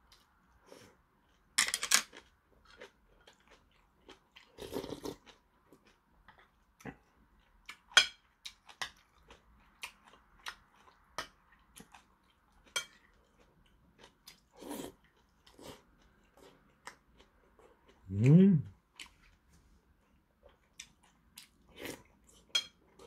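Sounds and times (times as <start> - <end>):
man chewing: 0.0 - 23.0.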